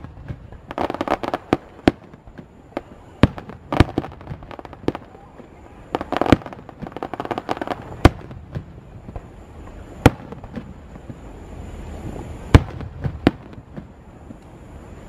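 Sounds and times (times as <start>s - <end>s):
crackling firework pops: 0.0s - 11.3s, 12.0s - 14.6s
firework shells bursting: 0.0s - 14.5s.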